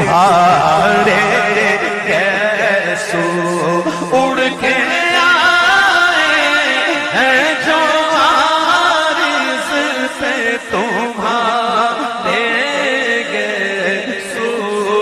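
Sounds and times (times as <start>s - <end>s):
person singing devotional song: 0.0s - 15.0s.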